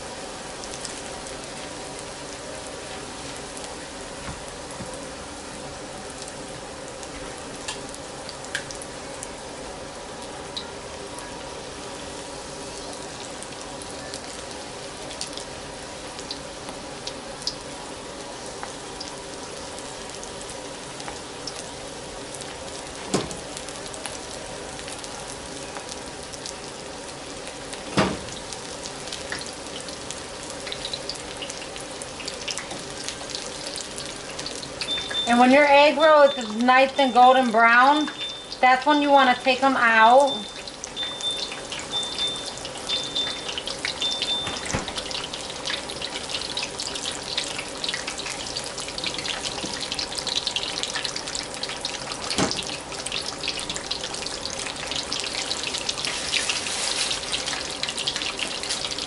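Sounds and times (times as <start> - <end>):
deep-frying sizzle: 0.0 - 59.0.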